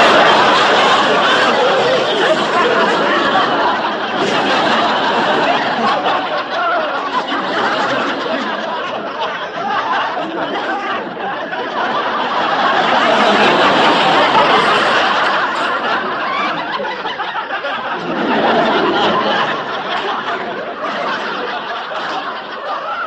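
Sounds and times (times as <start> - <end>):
large crowd laughing: 0.0 - 23.0.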